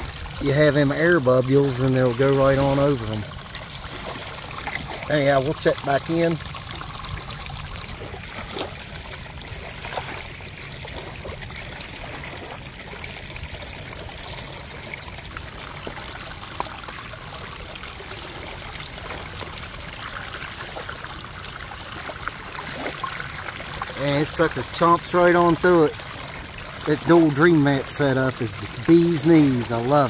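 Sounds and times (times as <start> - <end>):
water pouring down a sluice box: 0.0 - 30.0.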